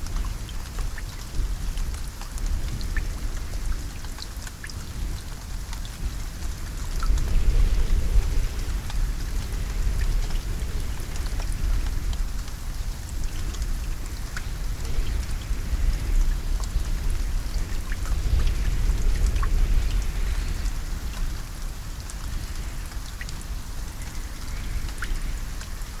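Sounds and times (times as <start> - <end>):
constant low rumble: 0.0 - 26.0
raindrops ticking: 0.0 - 26.0.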